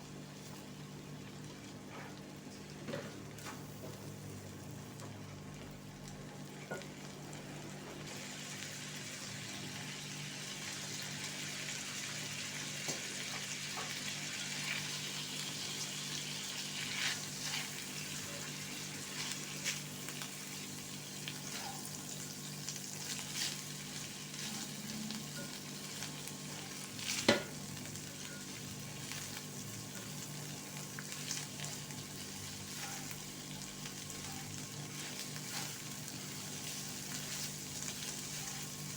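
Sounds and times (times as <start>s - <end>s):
food sizzling in oil: 3.6s - 38.9s.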